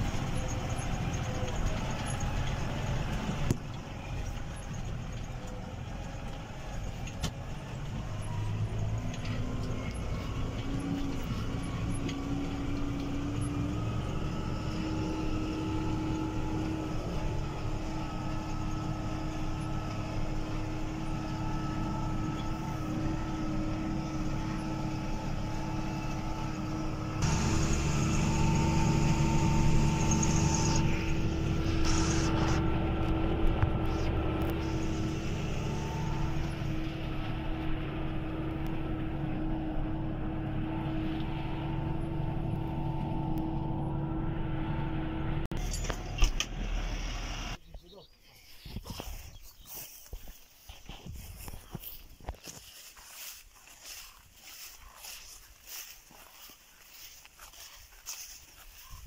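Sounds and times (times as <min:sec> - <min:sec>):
tractor engine running: 0:00.0 - 0:48.0, 0:48.6 - 0:59.0.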